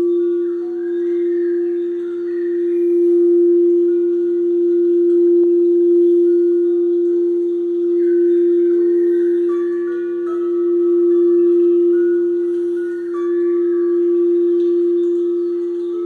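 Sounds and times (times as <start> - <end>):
crystal singing bowl tone: 0.0 - 16.0.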